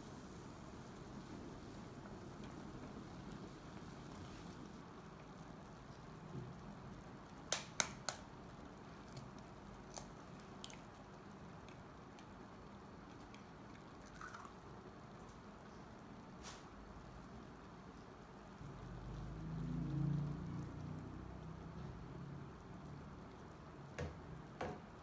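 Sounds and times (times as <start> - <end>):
broth simmering in a pan: 0.0 - 25.0.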